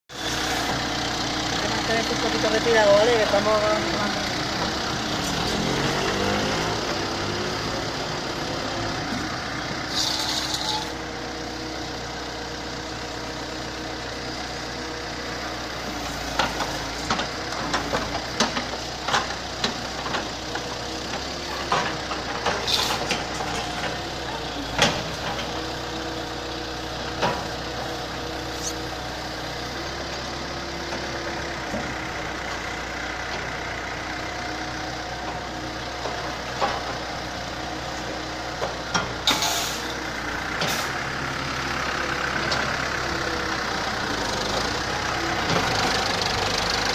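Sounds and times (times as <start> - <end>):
excavator engine running: 0.1 - 46.9.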